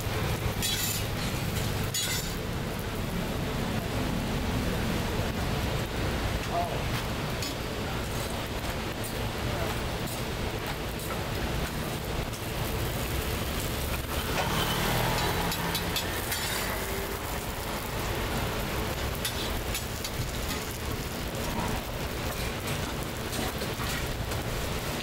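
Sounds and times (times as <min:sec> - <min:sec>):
pancakes sizzling in oil: 0:00.0 - 0:03.3, 0:07.4 - 0:25.0.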